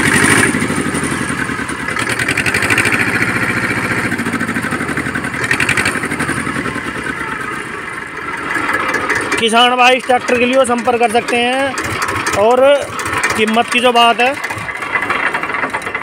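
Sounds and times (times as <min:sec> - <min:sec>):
diesel tractor engine chugging: 0:00.0 - 0:16.0.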